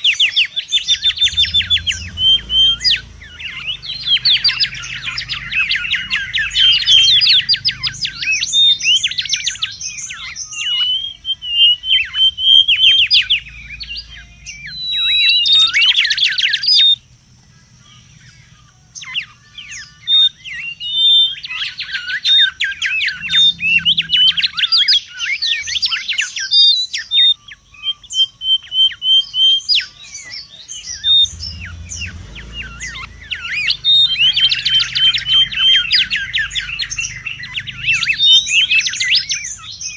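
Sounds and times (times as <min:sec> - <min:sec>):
bird whistling calls: 0:00.0 - 0:39.9.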